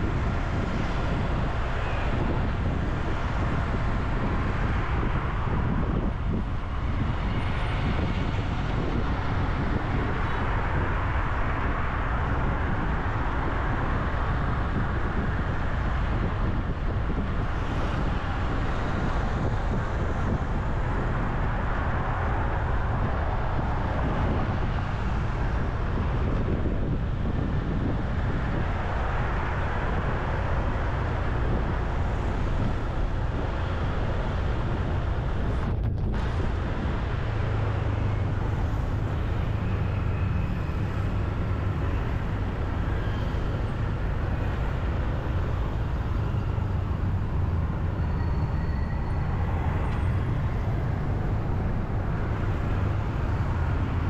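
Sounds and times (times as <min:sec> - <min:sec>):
cars passing: 0:00.0 - 0:54.0
road and wind rumble: 0:00.0 - 0:54.0.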